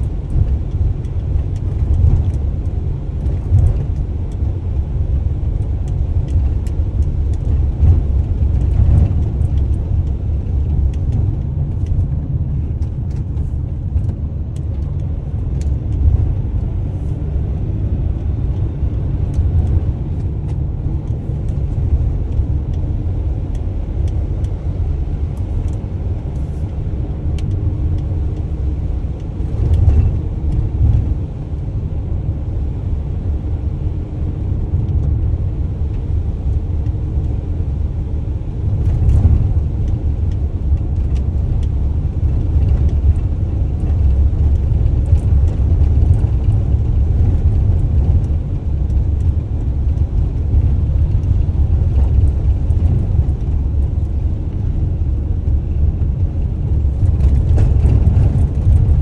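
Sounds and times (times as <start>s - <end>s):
van engine and road noise: 0.0s - 59.0s.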